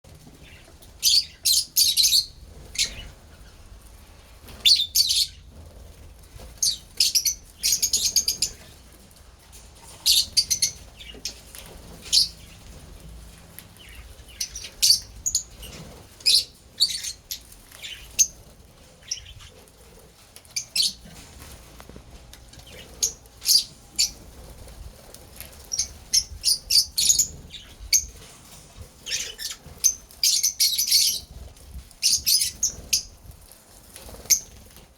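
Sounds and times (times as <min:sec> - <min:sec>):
lovebirds chirping: 0:00.2 - 0:03.8, 0:04.4 - 0:08.9, 0:09.8 - 0:13.0, 0:13.8 - 0:21.2, 0:22.5 - 0:24.7, 0:25.4 - 0:33.2.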